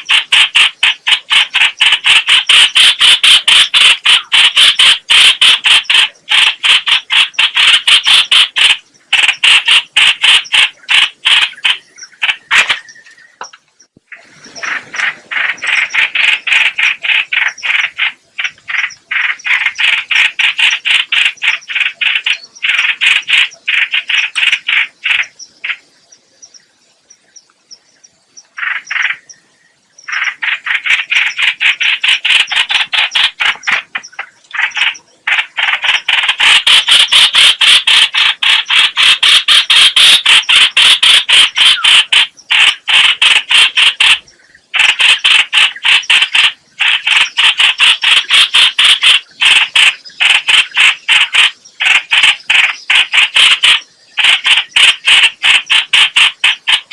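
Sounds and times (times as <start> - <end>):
bird chattering rattle call: 0.0 - 25.9, 28.4 - 29.4, 30.0 - 56.9.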